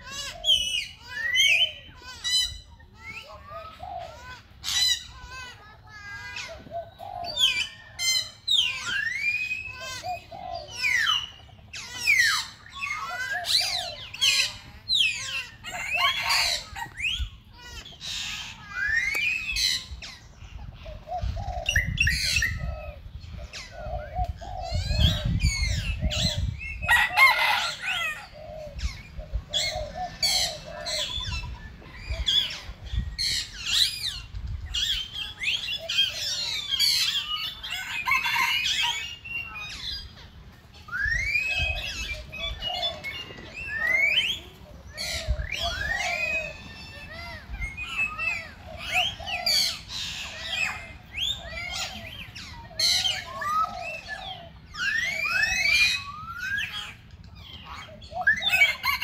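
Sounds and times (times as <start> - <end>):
birds chirping and whistling: 0.0 - 59.0.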